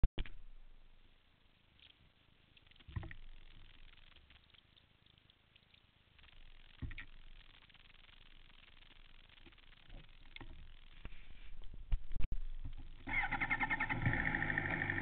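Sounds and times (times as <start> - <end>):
low hiss: 0.2 - 15.0.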